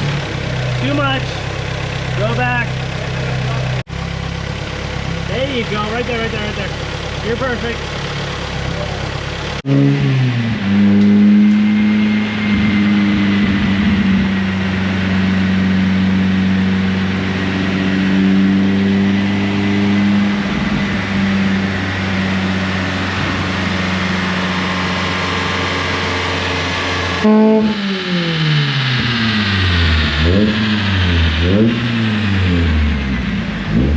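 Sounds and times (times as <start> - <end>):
car engine revving on dyno: 4.6 - 33.9.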